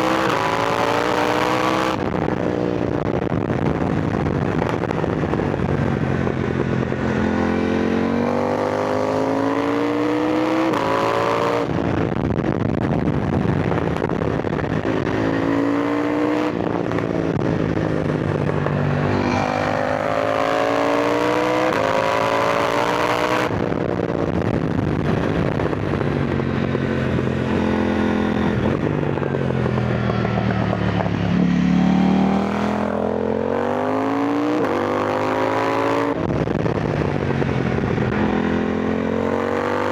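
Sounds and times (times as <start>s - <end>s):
motorcycle engine accelerating: 0.0s - 39.9s
wind rushing across microphone: 0.0s - 39.9s.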